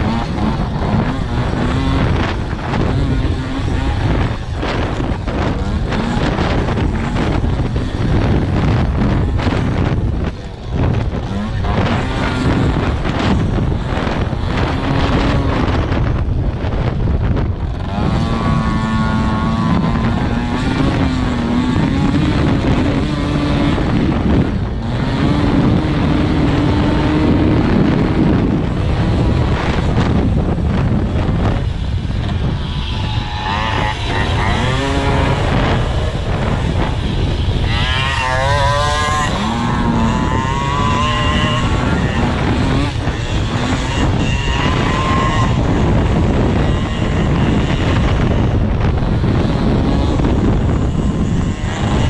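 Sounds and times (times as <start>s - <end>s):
small motorbike engine revving: 0.0s - 52.0s
wind buffeting microphone: 0.0s - 52.0s.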